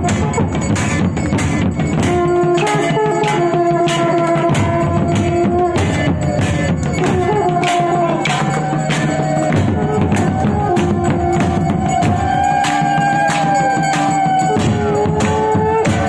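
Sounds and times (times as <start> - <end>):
drums beating steady rhythm: 0.0 - 16.0
brass horn long notes: 2.0 - 16.0.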